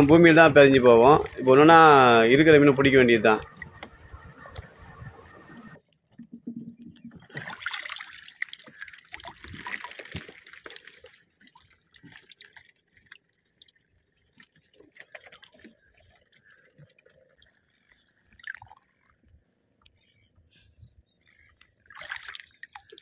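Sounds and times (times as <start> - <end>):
water dripping: 0.0 - 19.4.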